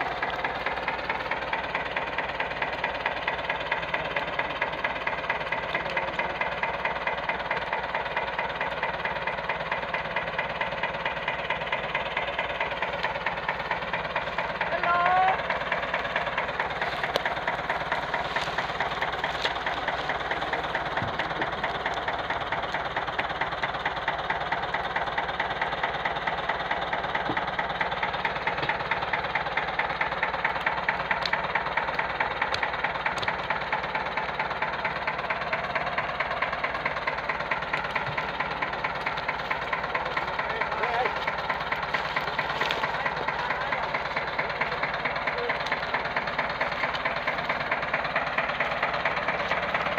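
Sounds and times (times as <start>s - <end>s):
tractor engine knocking under load: 0.0s - 49.9s.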